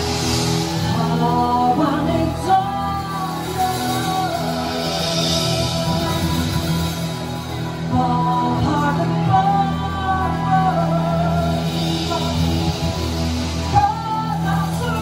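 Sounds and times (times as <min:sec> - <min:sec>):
drum kit: 0:00.0 - 0:15.0
live rock band playing: 0:00.0 - 0:15.0
person singing: 0:00.0 - 0:15.0.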